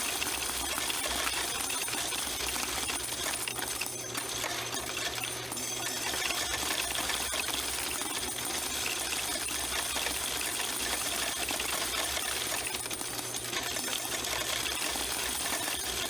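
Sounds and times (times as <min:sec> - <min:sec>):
coins clattering through sorter: 0:00.0 - 0:16.0.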